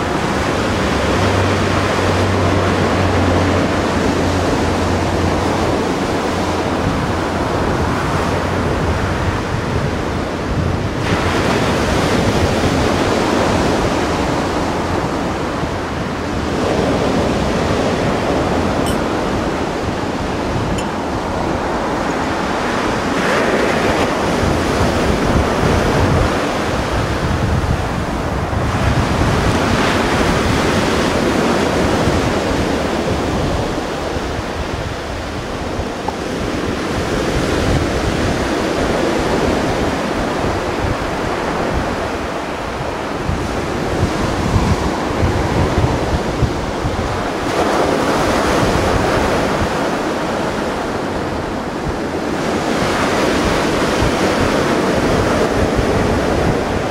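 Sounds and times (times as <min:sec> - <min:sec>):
sea waves breaking: 0:00.0 - 0:56.9
wind rumbling on microphone: 0:00.0 - 0:56.9.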